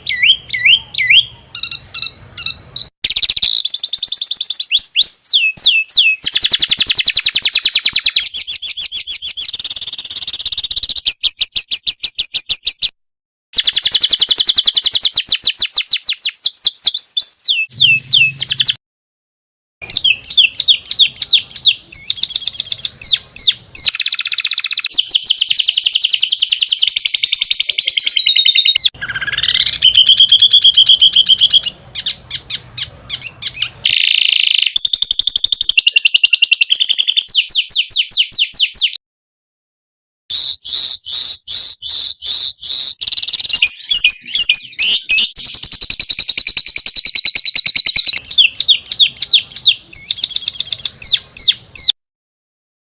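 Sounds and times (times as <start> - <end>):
songbird chirps and trills: 0.0 - 12.9, 13.6 - 18.8, 19.8 - 39.0, 40.3 - 52.0.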